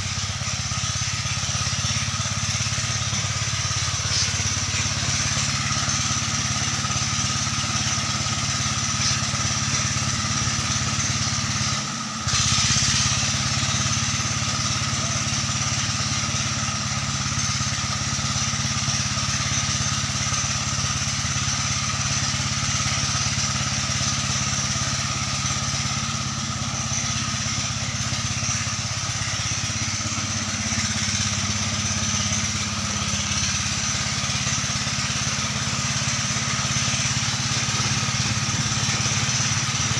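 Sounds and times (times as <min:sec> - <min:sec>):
pump engine running: 0:00.0 - 0:39.9.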